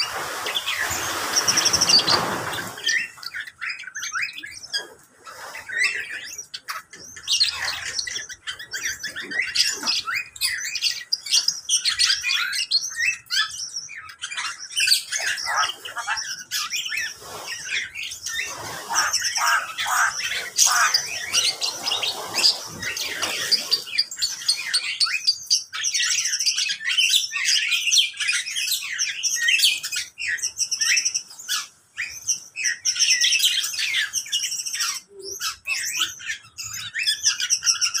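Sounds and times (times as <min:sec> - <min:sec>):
birds chirping and calling: 0:00.0 - 0:38.0.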